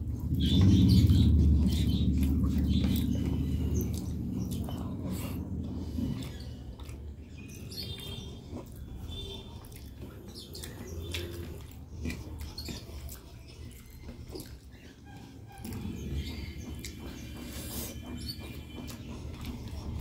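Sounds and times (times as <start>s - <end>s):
fingers mixing food clicks: 0.0s - 20.0s
wet chewing and lip smacks: 0.1s - 20.0s.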